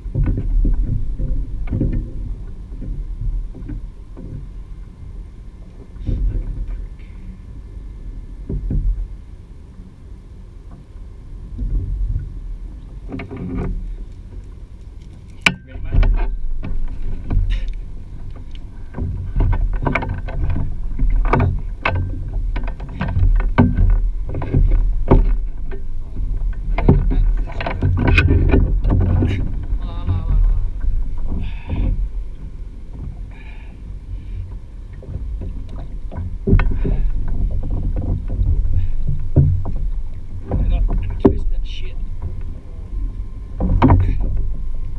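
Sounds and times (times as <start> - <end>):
knocks and bumps on kayak: 0.0 - 7.2, 8.4 - 9.2, 11.5 - 14.4, 15.4 - 44.9
wind rumbling on microphone: 0.0 - 44.9.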